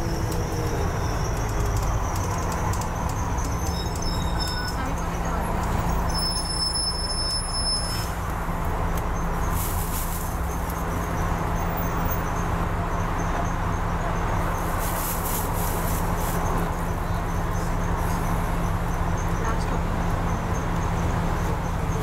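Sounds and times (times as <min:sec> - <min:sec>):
bus engine idling: 0:00.0 - 0:22.0.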